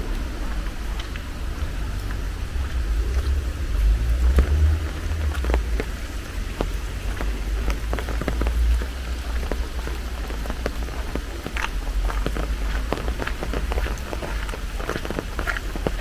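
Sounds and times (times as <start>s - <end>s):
low steady rumble: 0.0s - 16.0s
steady rain falling: 0.0s - 16.0s.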